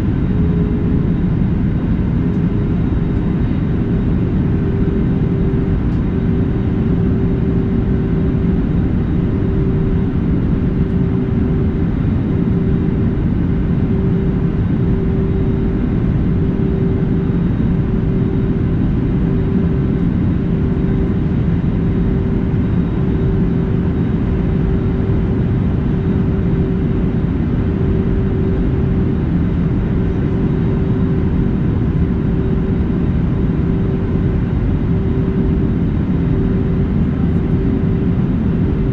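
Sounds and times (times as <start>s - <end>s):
aircraft engine and airflow rumble: 0.0s - 38.9s
constant low hum: 0.0s - 38.9s.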